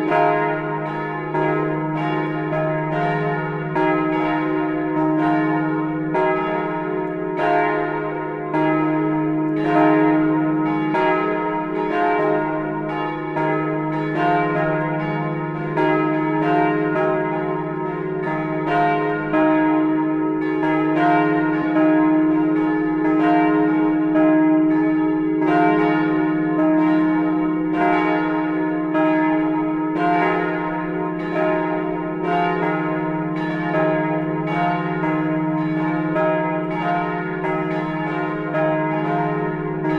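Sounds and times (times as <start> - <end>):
large church bells pealing: 0.0 - 39.9.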